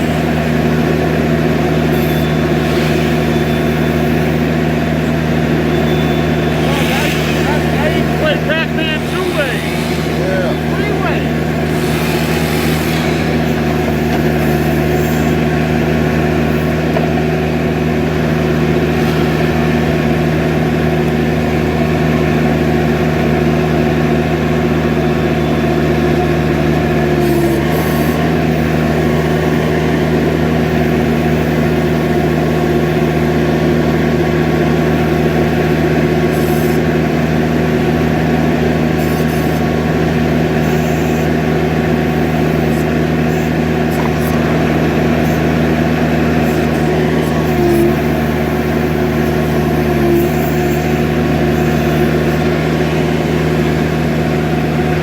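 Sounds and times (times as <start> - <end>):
skid steer loader engine running: 0.0 - 55.0.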